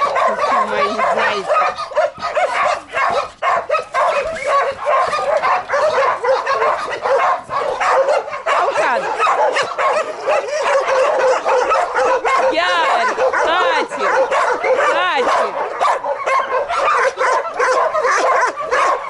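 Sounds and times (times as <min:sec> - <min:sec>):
dogs barking: 0:00.0 - 0:19.0.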